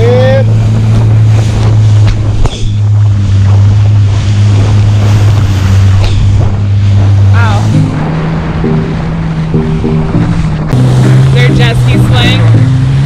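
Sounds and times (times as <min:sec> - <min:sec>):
jet ski engine running: 0:00.0 - 0:13.0
wind on microphone: 0:00.0 - 0:13.0.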